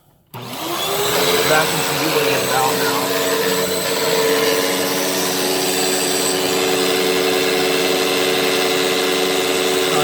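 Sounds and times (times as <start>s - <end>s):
upright vacuum cleaner running: 0.3s - 10.0s.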